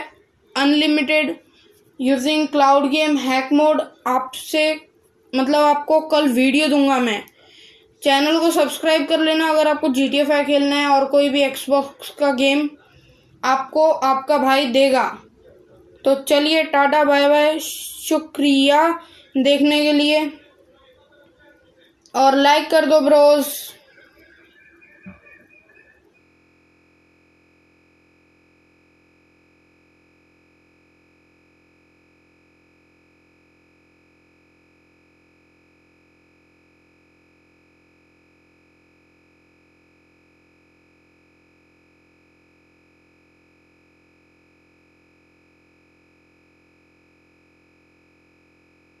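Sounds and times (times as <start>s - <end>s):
faint electronic hum: 0.0s - 49.0s.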